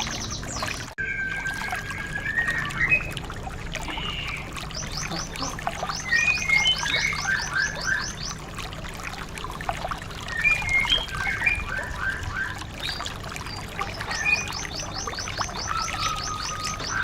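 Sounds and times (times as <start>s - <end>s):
bird whistling and twittering: 0.0s - 3.2s, 3.8s - 8.4s, 10.2s - 17.0s
water trickling: 0.0s - 17.0s.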